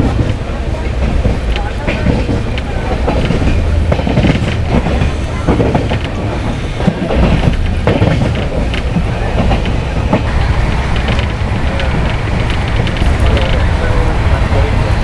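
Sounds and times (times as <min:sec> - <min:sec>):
train wheels rumbling on rails: 0:00.0 - 0:15.0
wheels clicking over rail joints: 0:00.0 - 0:15.0.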